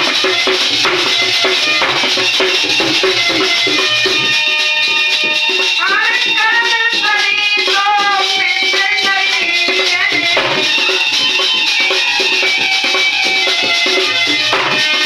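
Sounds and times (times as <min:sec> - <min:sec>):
dholak beat: 0:00.0 - 0:15.0
high sliding melodic line: 0:00.0 - 0:15.0.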